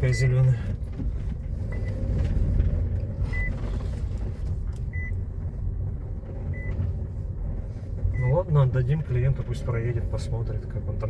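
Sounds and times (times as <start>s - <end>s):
car interior rumble on rough ground: 0.0s - 11.0s.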